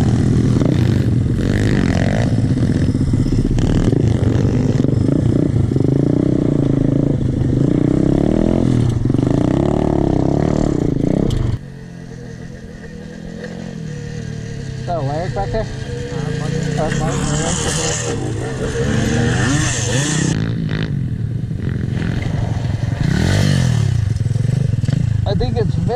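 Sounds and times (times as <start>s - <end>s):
motorbike engine revving: 0.0s - 25.9s.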